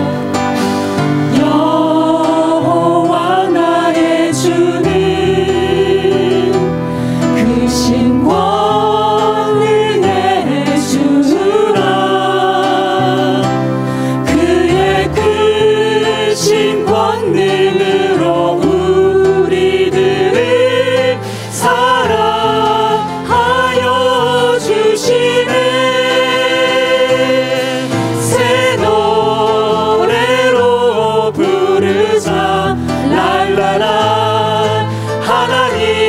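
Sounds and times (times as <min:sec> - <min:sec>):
keyboards: 0:00.0 - 0:36.0
singers with vibrato: 0:00.0 - 0:36.0.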